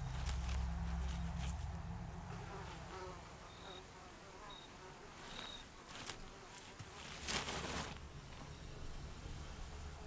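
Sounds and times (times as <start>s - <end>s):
flies buzzing: 0.0s - 10.0s.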